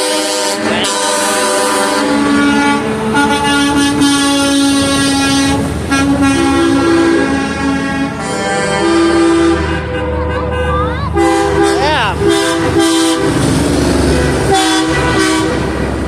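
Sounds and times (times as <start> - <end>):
truck air horns blowing: 0.0 - 16.0.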